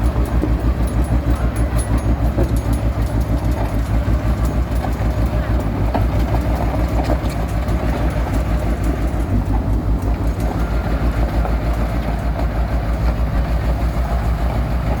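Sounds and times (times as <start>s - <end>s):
heavy diesel engine rumbling: 0.0s - 15.0s.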